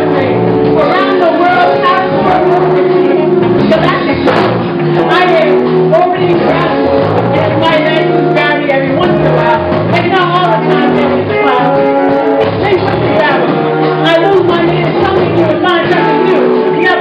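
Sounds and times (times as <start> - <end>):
live band playing: 0.0 - 17.0
steady bass notes: 0.0 - 17.0
woman singing into a microphone: 0.0 - 17.0.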